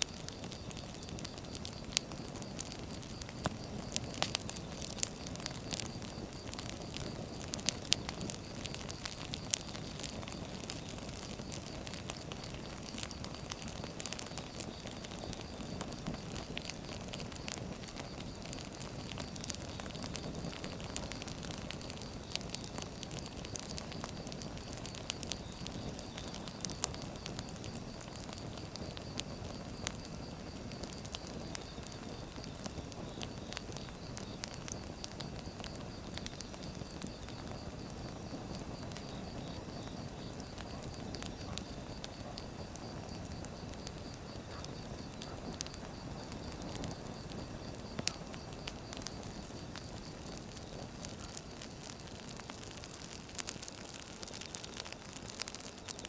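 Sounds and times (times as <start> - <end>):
firewood crackling and popping: 0.0 - 56.0
low rumble of flames: 0.0 - 56.0.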